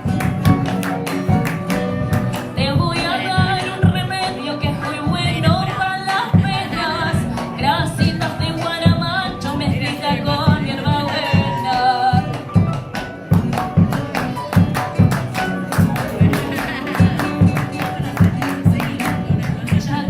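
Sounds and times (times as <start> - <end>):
person singing: 0.0 - 12.8, 14.0 - 20.0
instrumental accompaniment with beat: 0.0 - 20.0.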